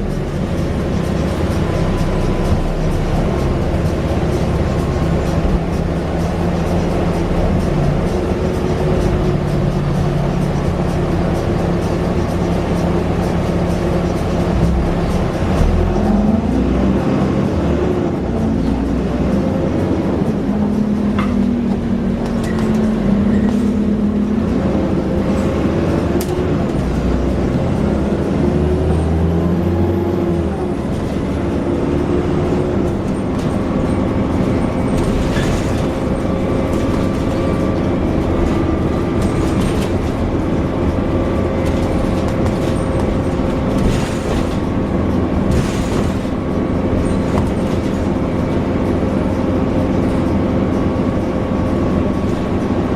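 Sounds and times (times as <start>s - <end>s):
bus engine running: 0.0s - 52.9s.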